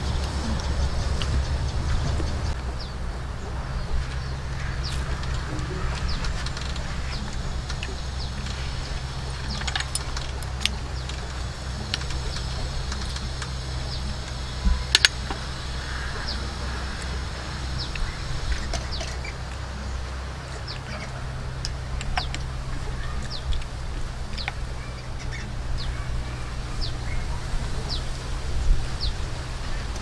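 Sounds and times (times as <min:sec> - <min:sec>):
birds chirping: 0:00.0 - 0:30.0
steady low hum: 0:00.0 - 0:30.0.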